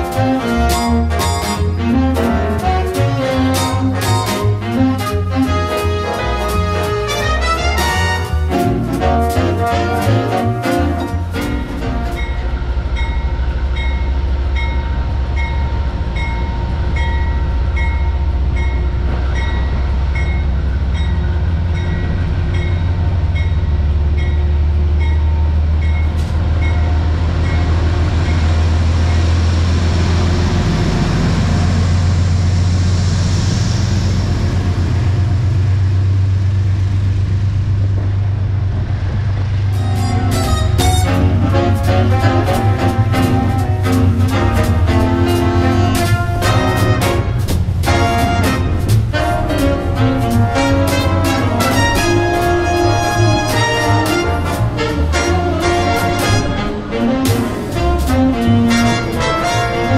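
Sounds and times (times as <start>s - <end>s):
diesel locomotive engine rumble: 0.0s - 59.9s
passenger cars rolling past: 0.0s - 59.9s.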